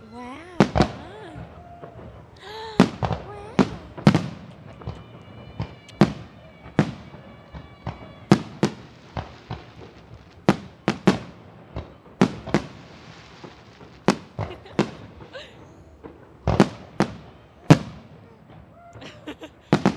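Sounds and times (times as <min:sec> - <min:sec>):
fireworks bangs: 0:00.0 - 0:19.9.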